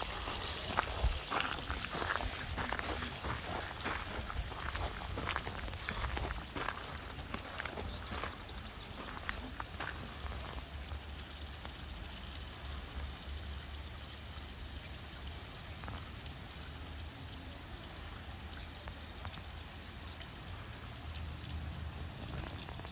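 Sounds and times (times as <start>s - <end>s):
fountain water splashing: 0.0s - 22.9s.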